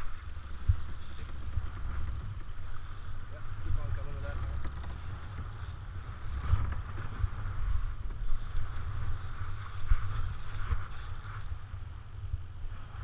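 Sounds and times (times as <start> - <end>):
water splashing along boat hull: 0.0 - 12.0
wind buffeting microphone: 0.0 - 13.0.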